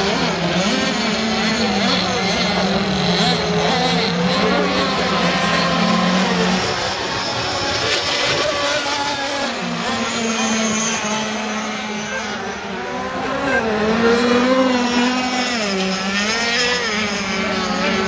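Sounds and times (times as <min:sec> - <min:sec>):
racing boat engines buzzing: 0:00.0 - 0:18.0.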